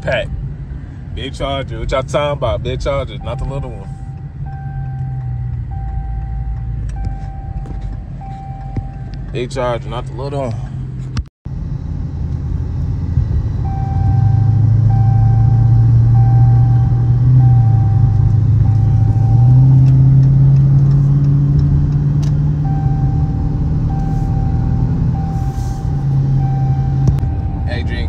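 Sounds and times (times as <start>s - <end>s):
car engine accelerating: 2.0s - 28.0s.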